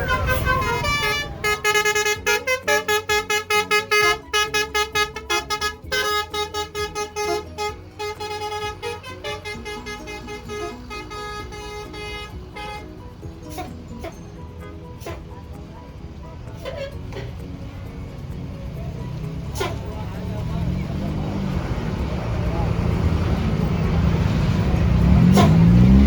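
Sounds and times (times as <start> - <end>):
musical bus horn melody: 0.0 - 26.0.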